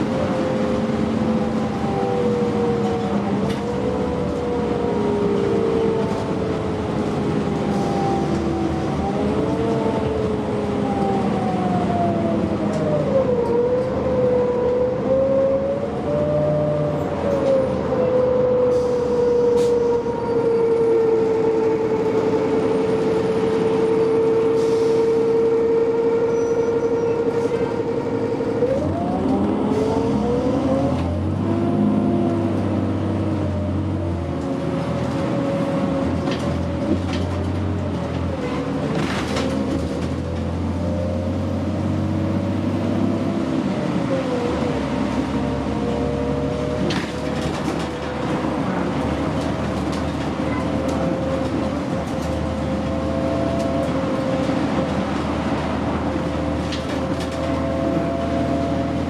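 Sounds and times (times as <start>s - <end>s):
bus drivetrain whine: 0.0s - 59.0s
steady bus rumble: 0.0s - 59.0s.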